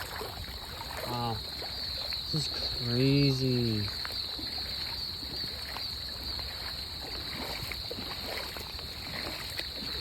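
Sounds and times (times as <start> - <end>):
feet wading through water: 0.0 - 10.0.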